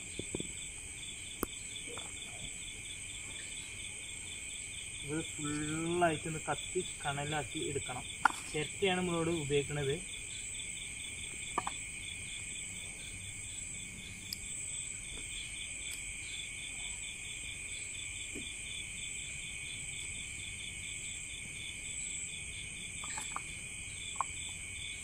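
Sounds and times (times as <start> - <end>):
insects trilling: 0.0 - 25.0
pulsing cricket chirp: 0.0 - 25.0.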